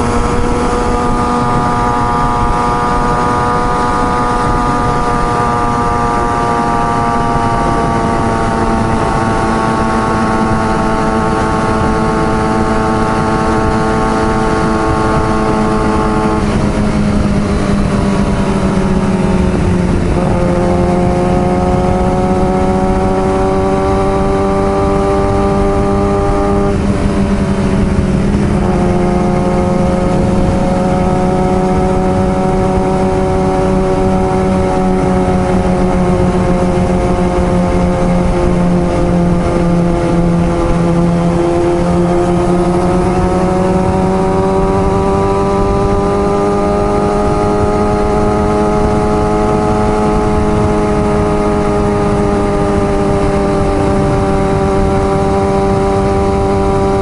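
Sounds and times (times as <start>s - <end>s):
motorcycle engine running hard: 0.0s - 57.0s.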